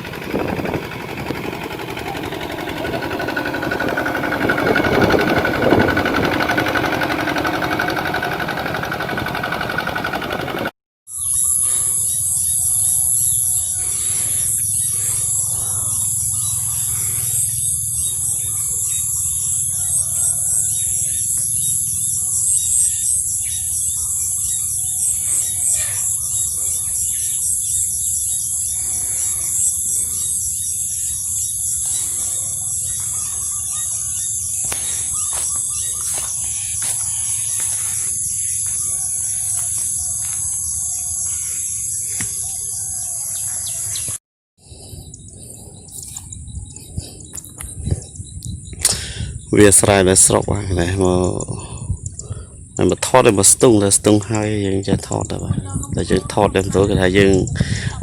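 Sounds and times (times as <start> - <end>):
birds chirping: 0.0 - 58.0
insects chorus: 0.0 - 58.0.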